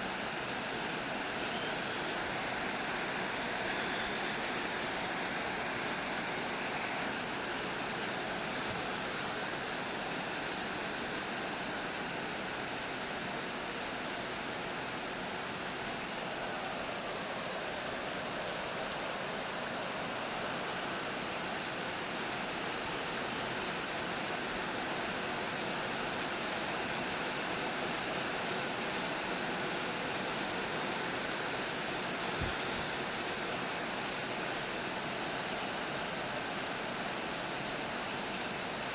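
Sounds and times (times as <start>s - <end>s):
storm rain hissing: 0.0s - 38.9s.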